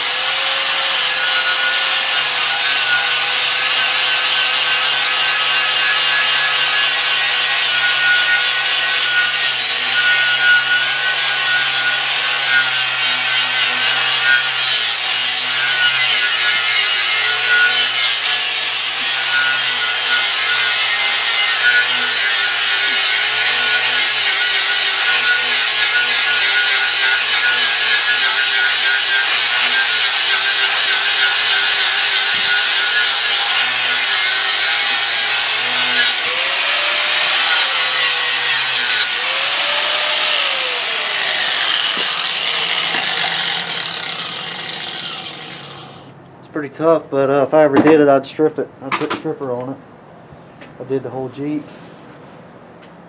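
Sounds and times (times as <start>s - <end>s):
angle grinder grinding steel: 0.0s - 46.2s.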